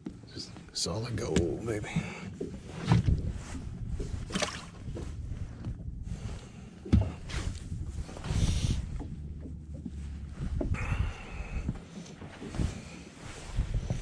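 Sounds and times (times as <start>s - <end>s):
dull thumps and knocks in a boat: 0.0s - 14.0s
water: 0.0s - 14.0s
wind: 0.0s - 14.0s.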